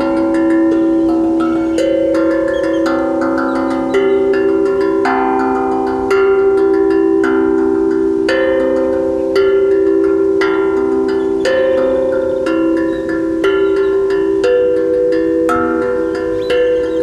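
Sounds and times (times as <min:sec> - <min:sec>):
steel drum melody: 0:00.0 - 0:17.0.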